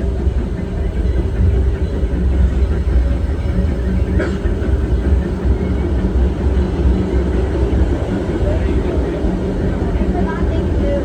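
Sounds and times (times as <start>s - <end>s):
train car rumbling on track: 0.0s - 11.0s.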